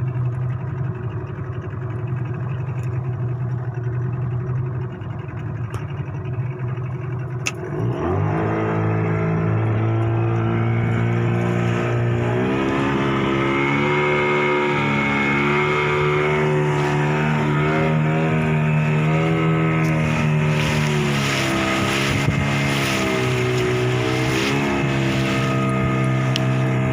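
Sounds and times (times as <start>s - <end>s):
boat engine revving: 0.0s - 26.9s.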